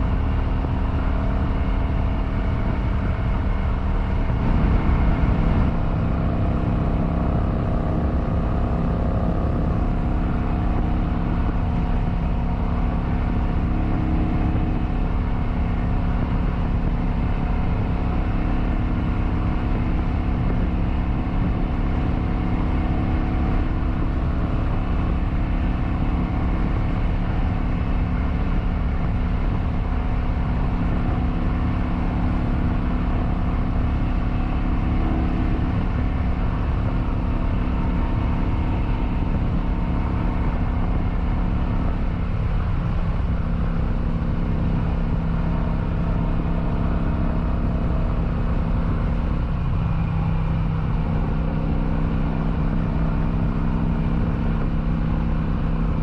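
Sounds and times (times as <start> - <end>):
motorcycle engine cruising: 0.0 - 56.0
rushing wind noise: 0.0 - 56.0.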